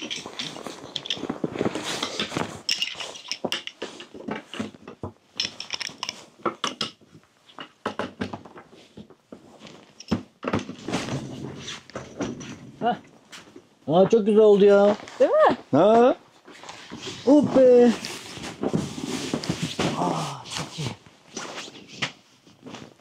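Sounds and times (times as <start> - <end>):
rustling: 0.0 - 4.8, 8.4 - 23.0.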